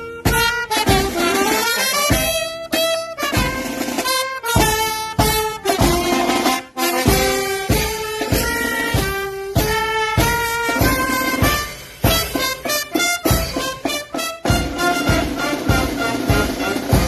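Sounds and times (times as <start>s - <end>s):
brass band playing a march: 0.0s - 17.0s
steady drum beat: 0.0s - 17.0s.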